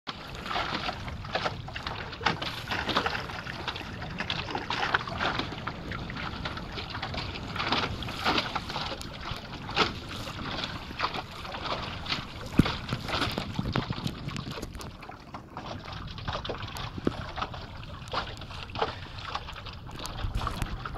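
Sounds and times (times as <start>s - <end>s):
water slapping against hull: 0.1s - 20.9s
wind on microphone: 0.1s - 20.9s.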